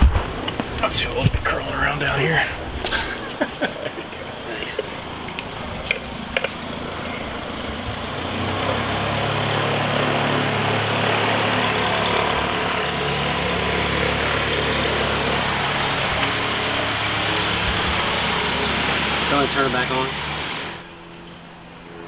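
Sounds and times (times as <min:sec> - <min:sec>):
engine idling: 0:00.8 - 0:22.0.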